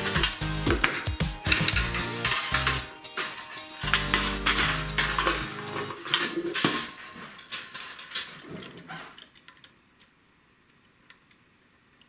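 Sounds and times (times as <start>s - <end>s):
metal parts clinking and rattling: 0.0s - 9.7s.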